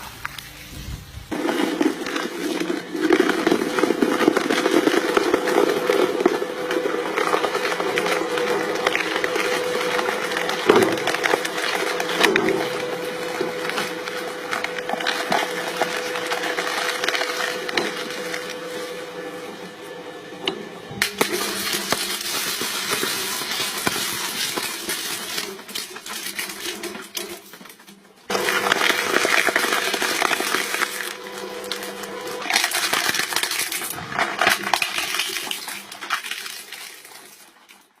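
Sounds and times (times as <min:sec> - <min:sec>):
material crunching and splintering: 0:01.3 - 0:18.9, 0:21.0 - 0:38.0
crushing machine motor hum: 0:01.3 - 0:27.4, 0:28.3 - 0:37.8.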